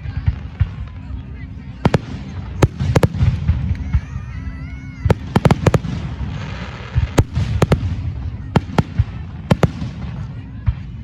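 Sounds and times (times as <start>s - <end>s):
low rumble of fireworks: 0.0s - 11.0s
fireworks bangs: 1.8s - 10.8s.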